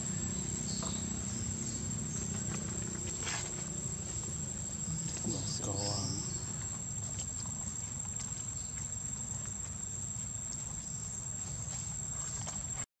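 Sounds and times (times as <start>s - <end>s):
insects droning high-pitched: 0.0s - 12.8s.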